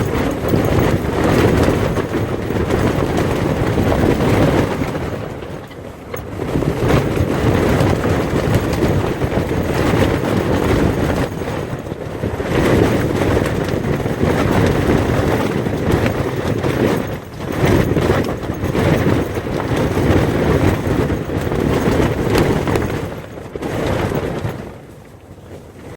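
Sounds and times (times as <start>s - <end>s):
strong wind gusts: 0.0s - 25.9s
wind buffeting microphone: 0.0s - 25.9s.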